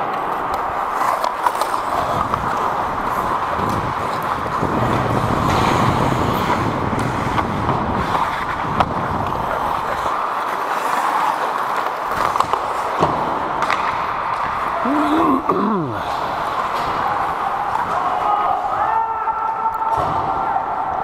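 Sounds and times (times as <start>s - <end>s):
skate blades scraping on ice: 0.0s - 15.4s, 16.0s - 18.3s
clicks of sticks and puck: 0.0s - 18.4s.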